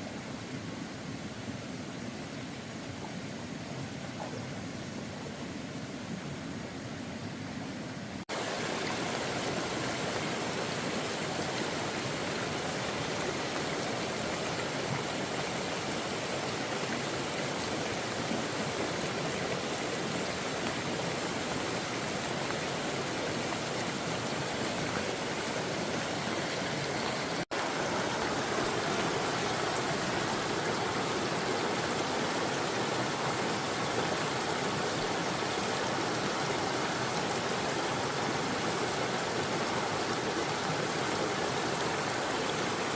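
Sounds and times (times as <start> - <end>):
floodwater rushing: 8.3 - 42.9.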